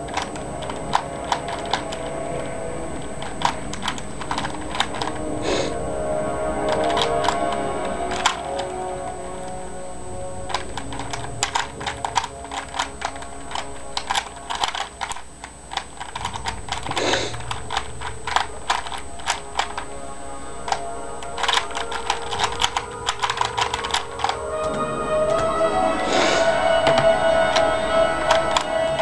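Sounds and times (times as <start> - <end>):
puzzle cube clicking: 0.0 - 5.8, 6.6 - 9.7, 10.4 - 20.0, 20.6 - 29.0
television music: 0.0 - 29.0.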